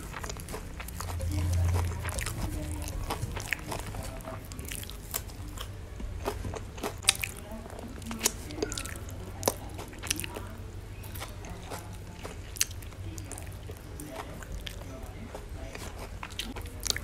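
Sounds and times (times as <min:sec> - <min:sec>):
person crunching fried fish: 0:00.0 - 0:17.0
quiet chewing: 0:00.0 - 0:17.0.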